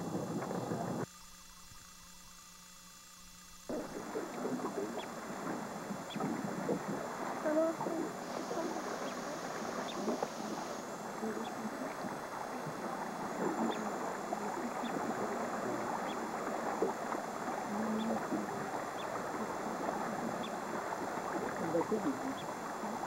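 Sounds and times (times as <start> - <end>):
small boat motor rumble on water: 0.0 - 23.0.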